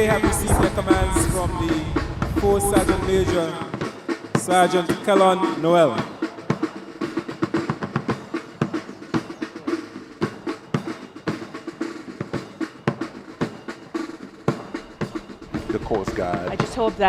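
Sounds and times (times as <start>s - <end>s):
snare and bass drum marching: 0.0s - 17.0s.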